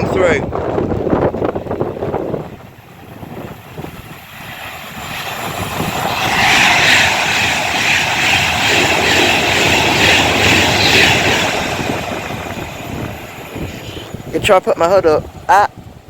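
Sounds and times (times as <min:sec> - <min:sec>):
train wheel and rail noise: 0:00.0 - 0:16.0.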